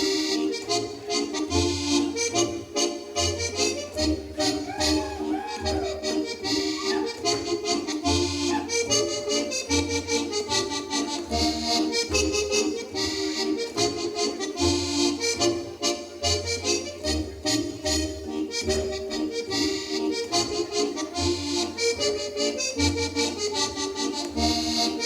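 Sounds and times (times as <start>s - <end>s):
accordion folk dance music: 0.0s - 25.0s.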